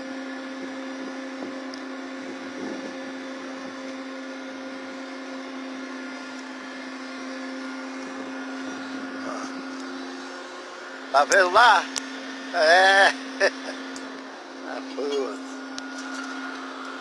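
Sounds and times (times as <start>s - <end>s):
crane machinery droning hum: 0.0s - 17.0s.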